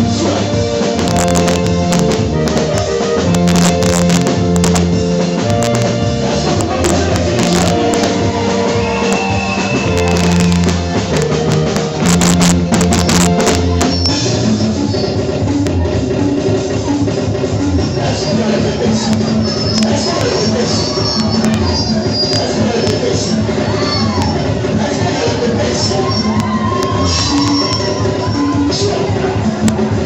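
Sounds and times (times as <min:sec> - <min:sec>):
drum kit: 0:00.0 - 0:30.0
guitar: 0:00.0 - 0:30.0
held bass notes: 0:00.0 - 0:30.0
worship band music: 0:00.0 - 0:30.0.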